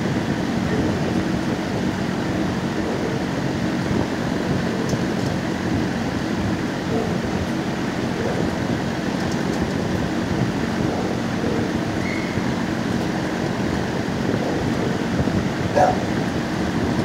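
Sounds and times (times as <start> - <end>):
kennel room background rumble: 0.0 - 17.0.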